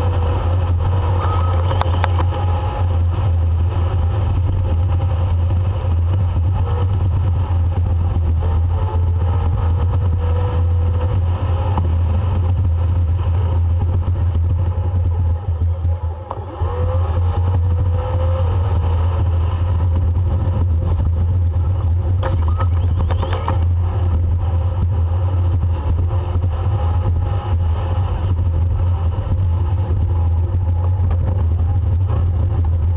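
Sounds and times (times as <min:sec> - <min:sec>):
truck engine and road drone: 0:00.0 - 0:32.9.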